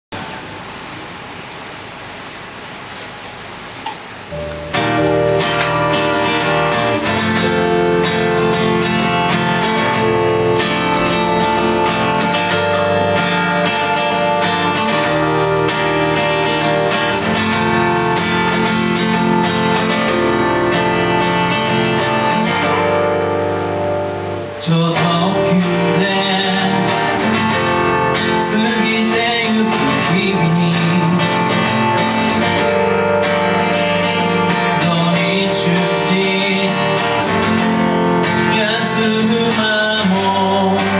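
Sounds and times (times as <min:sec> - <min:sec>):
acoustic guitar strumming: 0:04.2 - 0:40.9
keyboard playing: 0:04.3 - 0:40.9.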